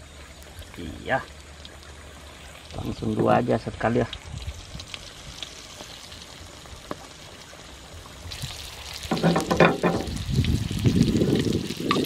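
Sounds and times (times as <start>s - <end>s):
meat frying in hot oil: 0.0s - 12.0s.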